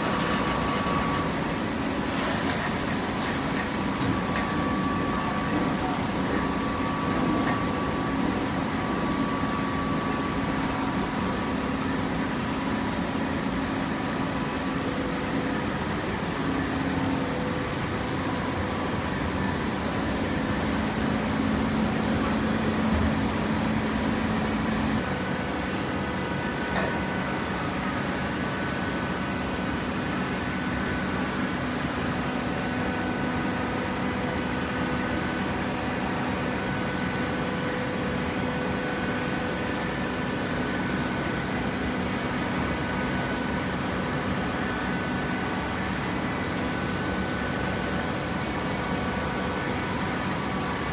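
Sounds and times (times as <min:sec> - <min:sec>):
hydraulic baler humming and whining: 0:00.0 - 0:50.9.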